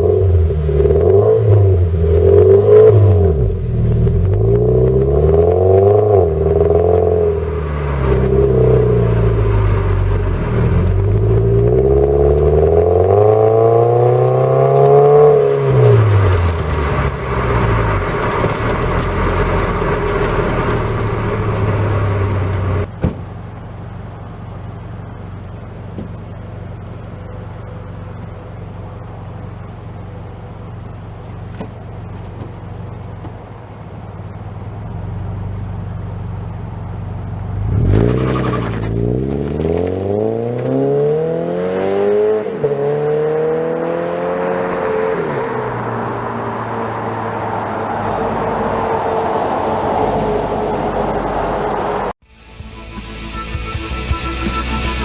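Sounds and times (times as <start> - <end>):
car engine revving: 0.0 - 52.2
quiet steady engine hum: 0.0 - 52.2.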